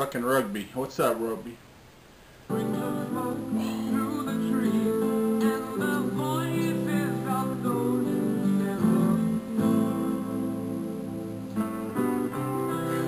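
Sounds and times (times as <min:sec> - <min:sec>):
strummed acoustic guitar: 0:02.5 - 0:13.0.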